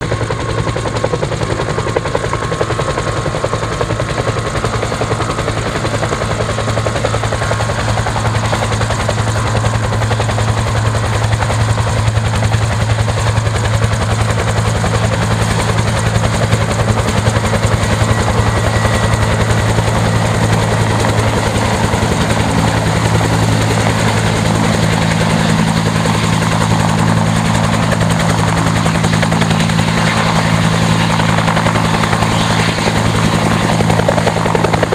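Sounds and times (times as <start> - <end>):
helicopter rotor beating: 0.0 - 34.9
low turbine hum: 0.0 - 34.9.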